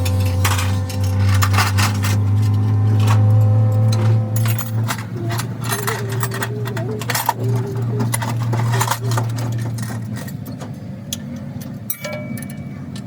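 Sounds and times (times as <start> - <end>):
machine motor humming: 0.0 - 10.9
clicks and metallic knocks: 0.0 - 13.0.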